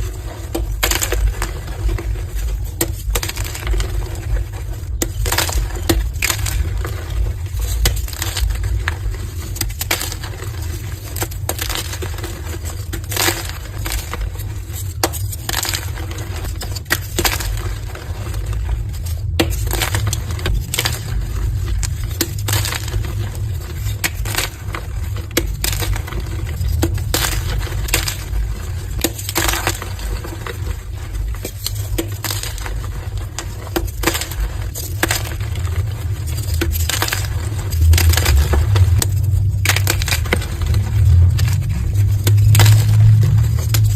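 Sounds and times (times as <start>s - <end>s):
chalk blocks crunching: 0.0s - 43.9s
low steady hum: 0.0s - 43.9s.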